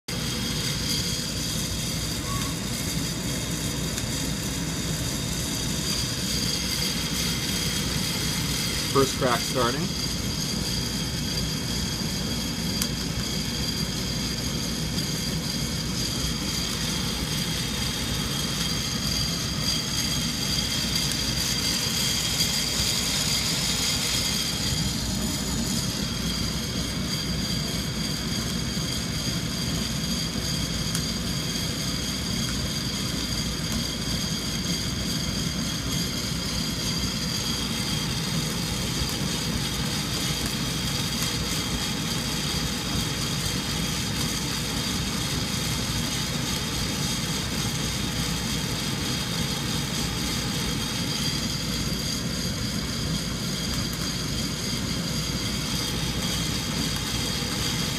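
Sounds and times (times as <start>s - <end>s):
hot-air blower whining: 0.0s - 57.9s
coffee beans popping: 0.1s - 57.9s.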